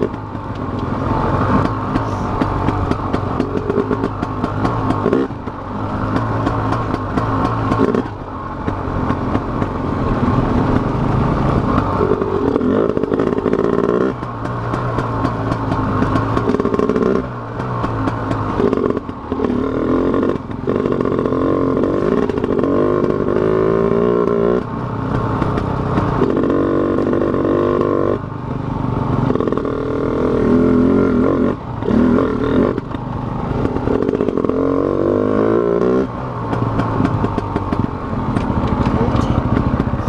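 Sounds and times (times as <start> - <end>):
dirt bike engine revving: 0.0 - 28.2, 29.2 - 40.0.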